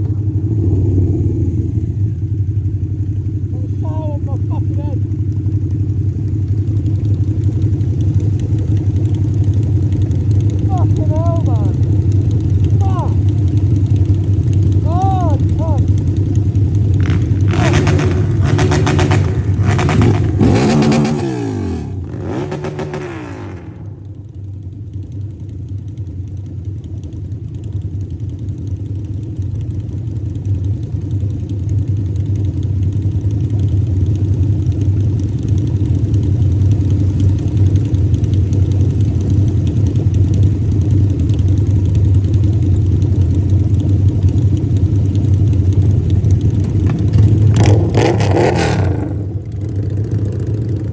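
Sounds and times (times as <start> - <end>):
motorcycle engine revving: 0.0 - 50.9
road and wind noise: 0.0 - 50.9.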